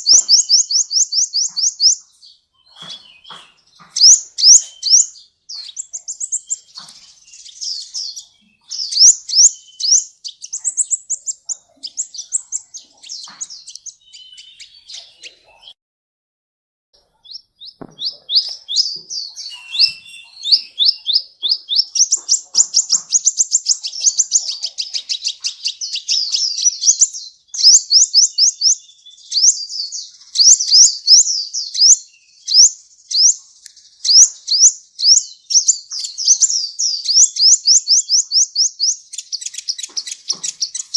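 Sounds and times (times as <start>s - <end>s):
bird high chirping song: 0.0s - 15.8s, 17.0s - 40.9s.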